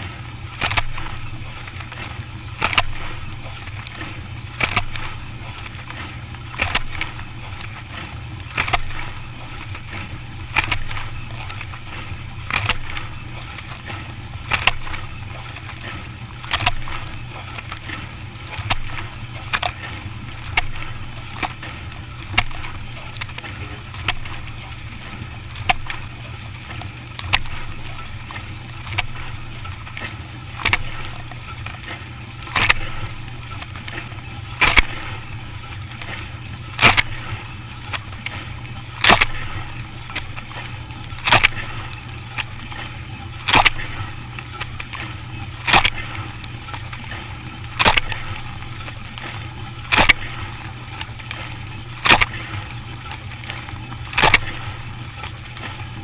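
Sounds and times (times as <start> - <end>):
dishwasher pump hum: 0.0 - 56.0
water splashing: 0.0 - 56.0.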